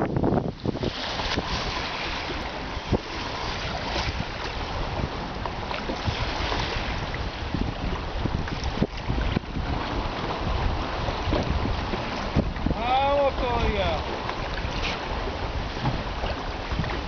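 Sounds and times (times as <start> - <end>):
waves lapping against boat hull: 0.0 - 17.0
wind buffeting microphone: 0.0 - 17.0.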